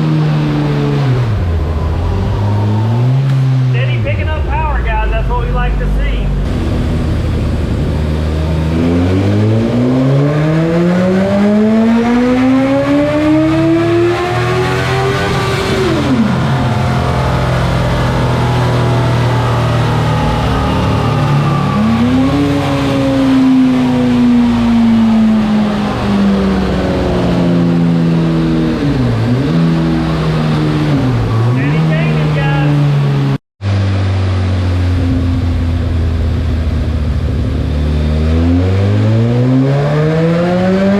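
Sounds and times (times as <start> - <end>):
motorcycle engine revving: 6.3 - 40.9.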